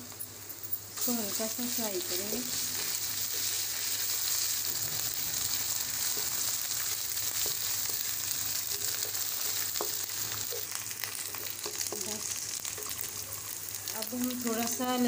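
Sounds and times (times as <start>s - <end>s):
onions sizzling in hot oil: 0.8s - 15.0s.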